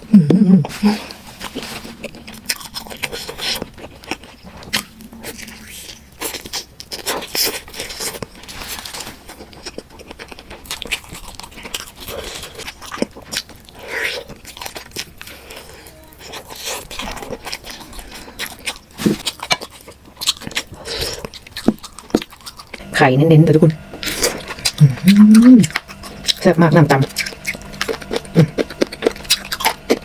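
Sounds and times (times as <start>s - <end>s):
person chewing food: 0.0s - 22.9s, 23.8s - 30.0s.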